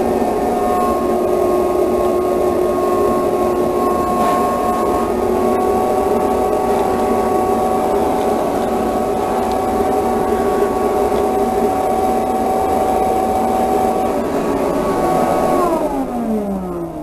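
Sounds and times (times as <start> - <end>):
shop vacuum motor whine: 0.0 - 17.0.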